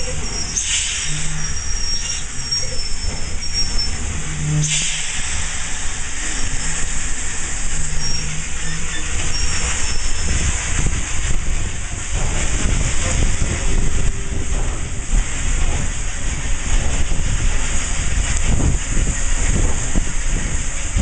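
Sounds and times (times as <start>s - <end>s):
steam hissing: 0.0s - 21.0s
low rumble: 3.0s - 21.0s.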